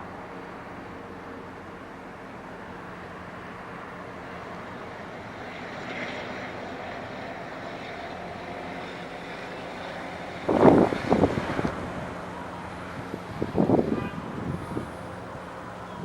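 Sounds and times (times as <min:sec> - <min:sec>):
distant engine drone: 0:00.0 - 0:16.0.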